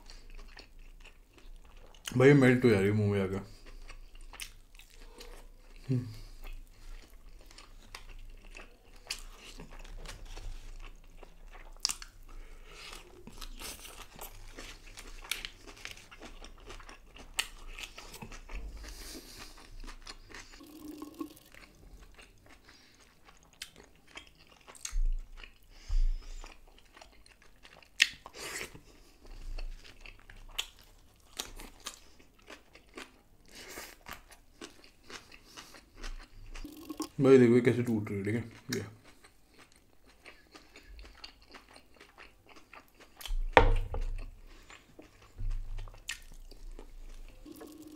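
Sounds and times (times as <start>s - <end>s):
wet chewing and mouth clicks: 0.0s - 2.2s, 3.5s - 37.2s, 38.5s - 47.9s.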